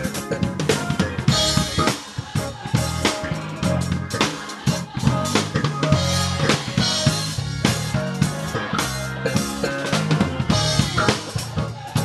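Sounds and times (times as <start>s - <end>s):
drum kit kick and snare: 0.0s - 12.0s
gospel band playing: 0.0s - 12.0s.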